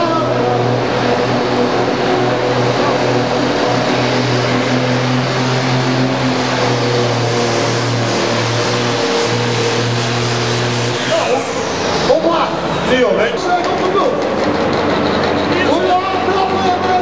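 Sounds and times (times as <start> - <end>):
tractor engine running hard: 0.0 - 17.0.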